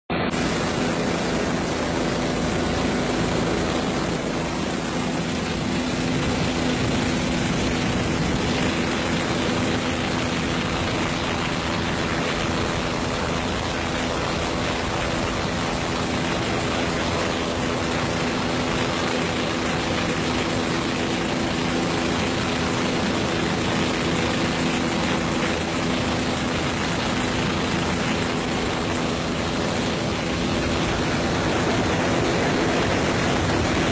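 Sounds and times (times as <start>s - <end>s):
aircraft engine drone: 0.1s - 33.9s.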